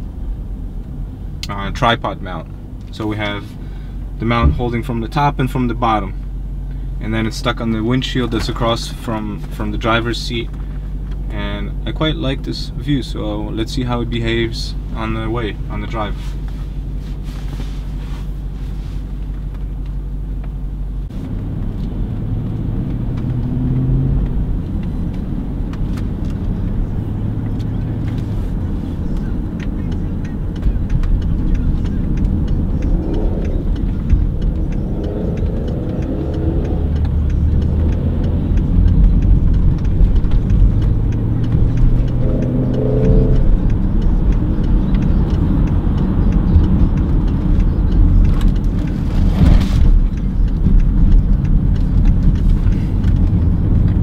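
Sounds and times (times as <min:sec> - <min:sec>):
car engine running: 0:00.0 - 0:54.0
tyre and road rumble: 0:00.0 - 0:54.0.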